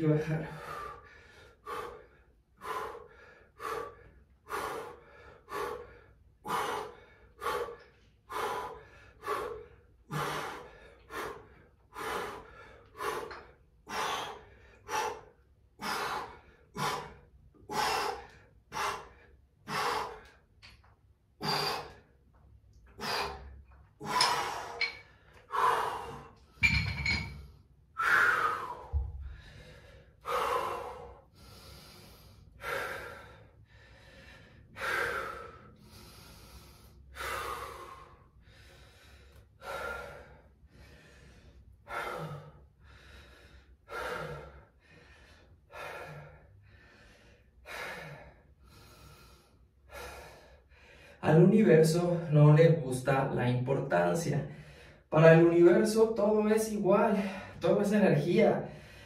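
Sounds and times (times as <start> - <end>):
person breathing hard while exercising: 0.3 - 51.2, 54.4 - 55.1, 57.1 - 57.9, 58.6 - 59.0.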